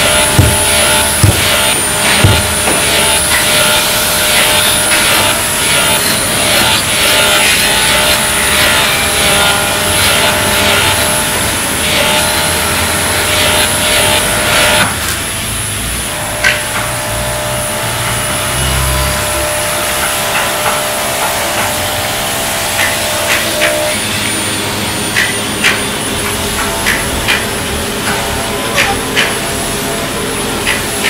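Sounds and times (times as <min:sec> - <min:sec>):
woodworking machinery drone: 0:00.0 - 0:31.0.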